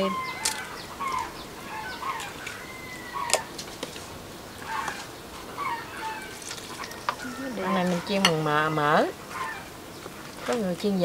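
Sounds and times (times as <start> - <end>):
chickens clucking: 0.0 - 10.6.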